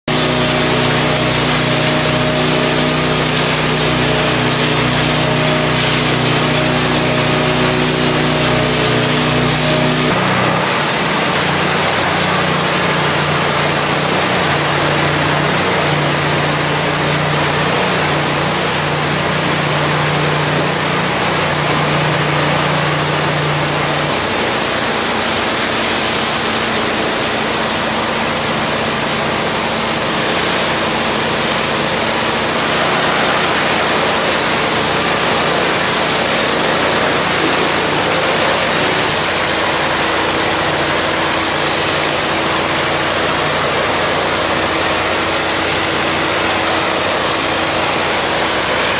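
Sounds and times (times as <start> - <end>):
engine-driven pump humming: 0.0 - 48.9
water spray hissing on tiles: 0.2 - 48.9.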